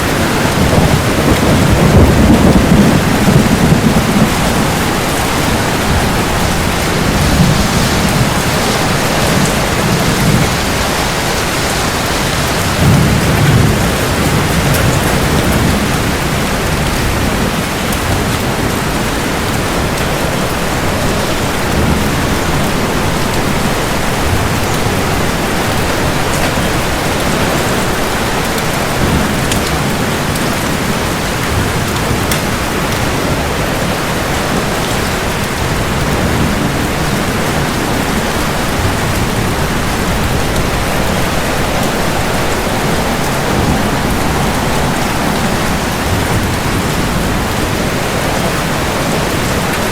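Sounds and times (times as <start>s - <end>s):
heavy rain falling: 0.0s - 49.9s
thunder rumbling: 0.0s - 49.9s.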